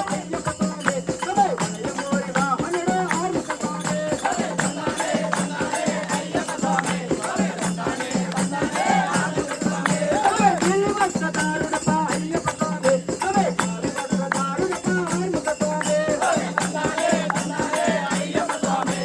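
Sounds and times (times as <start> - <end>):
group singing devotional song: 0.0 - 19.0
rattling hand percussion: 0.0 - 19.0.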